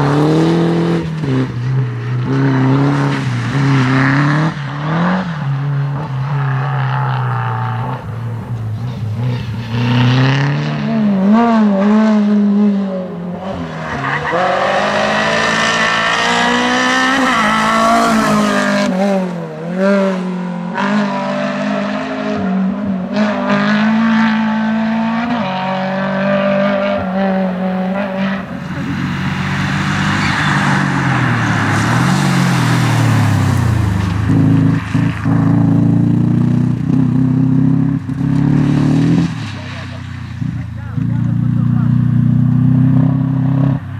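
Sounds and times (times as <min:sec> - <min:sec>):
rally car engines revving: 0:00.0 - 0:43.9.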